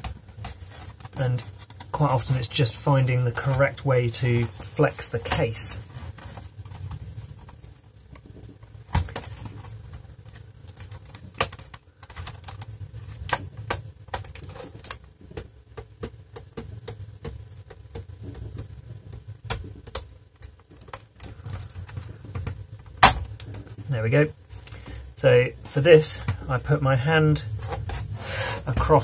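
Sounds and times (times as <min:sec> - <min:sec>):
plastic case clicking and creaking: 0:00.0 - 0:23.8.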